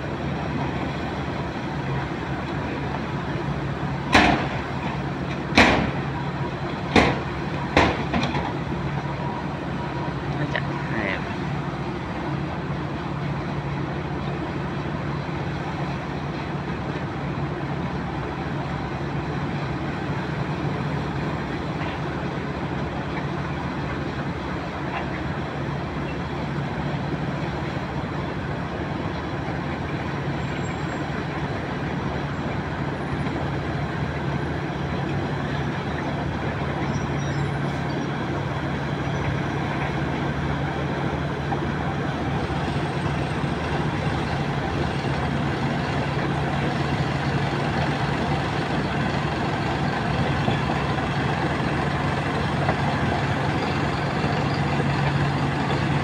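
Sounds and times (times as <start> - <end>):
heavy machinery engines humming: 0.0 - 56.0.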